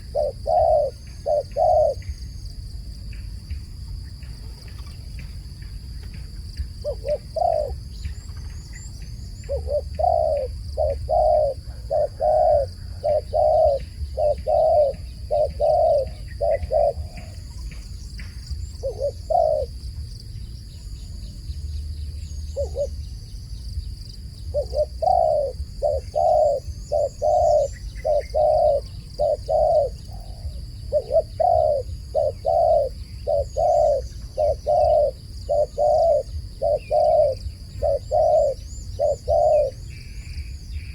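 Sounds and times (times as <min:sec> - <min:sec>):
dove cooing: 0:00.0 - 0:02.1, 0:06.1 - 0:19.8, 0:22.3 - 0:23.1, 0:24.4 - 0:40.9.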